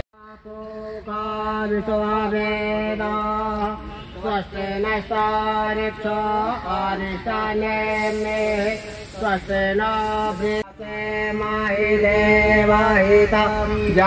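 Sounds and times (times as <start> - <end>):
devotional chant in long notes: 0.2 - 14.0.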